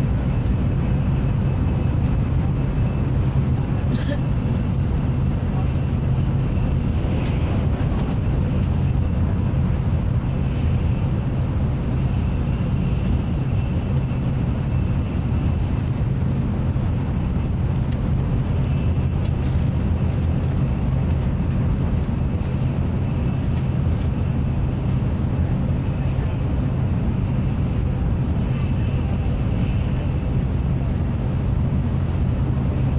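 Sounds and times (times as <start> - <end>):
high-speed train rumble: 0.0 - 32.9.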